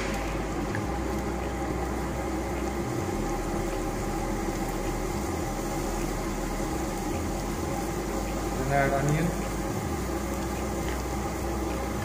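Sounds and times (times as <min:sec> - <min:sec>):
garlic sizzling in oil: 0:00.0 - 0:12.0
gas burner hum: 0:00.0 - 0:12.0.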